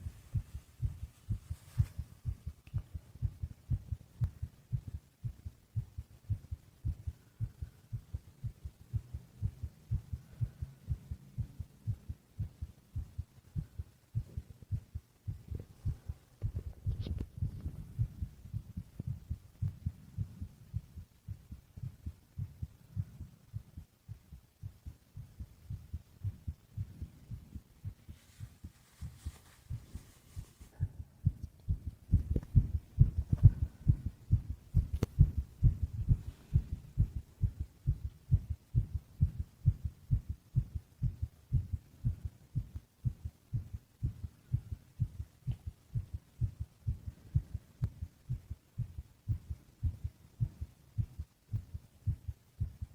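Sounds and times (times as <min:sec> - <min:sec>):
heartbeat thumps: 0:00.0 - 0:52.9.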